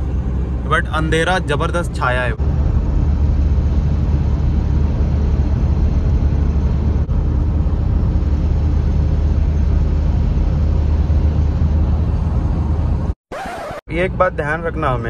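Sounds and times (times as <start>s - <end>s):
car cabin engine and road drone: 0.0s - 15.0s.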